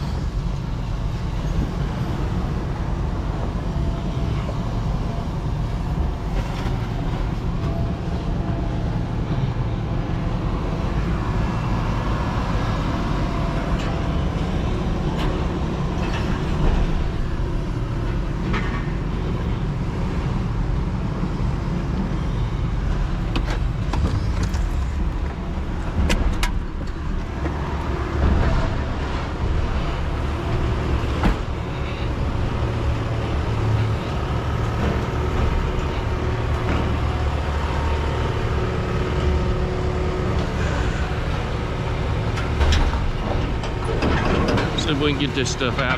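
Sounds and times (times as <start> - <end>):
vehicle engine low rumble: 0.0 - 45.9.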